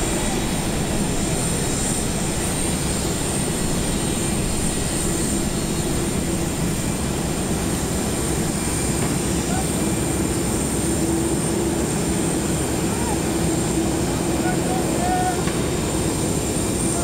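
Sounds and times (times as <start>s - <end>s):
jet turbine whine and rumble: 0.0s - 17.0s.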